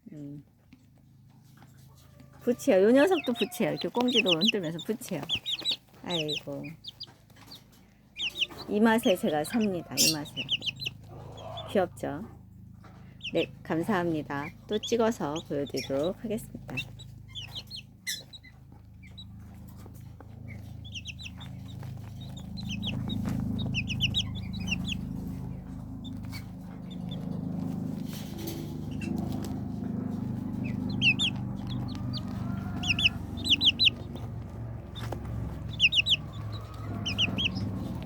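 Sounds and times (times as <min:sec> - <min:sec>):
chicks peeping: 0:00.2 - 0:38.0.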